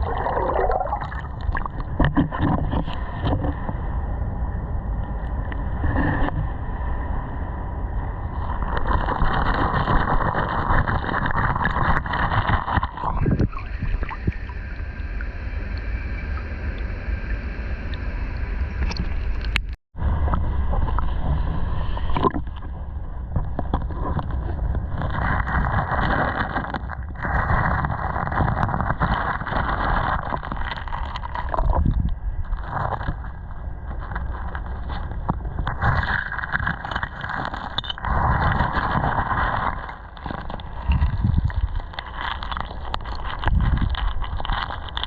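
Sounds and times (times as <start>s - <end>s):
wind on microphone: 0.0s - 45.0s.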